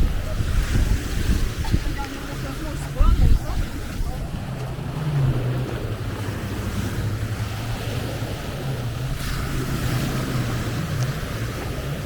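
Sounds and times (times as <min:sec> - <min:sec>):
motorboat engine drone: 0:00.0 - 0:12.0
sea waves washing on shore: 0:00.0 - 0:12.0.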